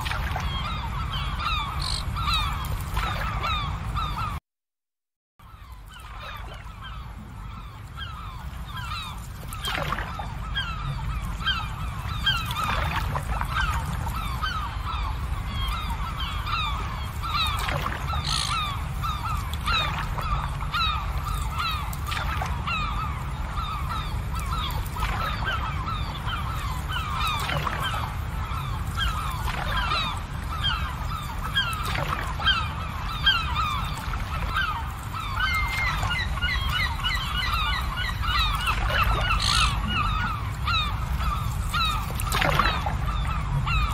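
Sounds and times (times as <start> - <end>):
flock of birds calling: 0.0 - 4.4, 5.5 - 43.9.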